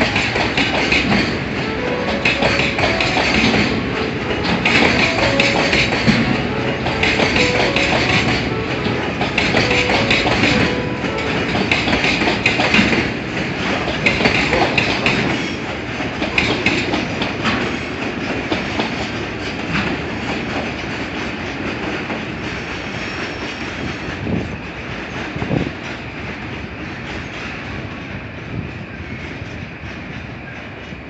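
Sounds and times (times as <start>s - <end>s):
train wheels clicking over rails: 0.0s - 31.0s.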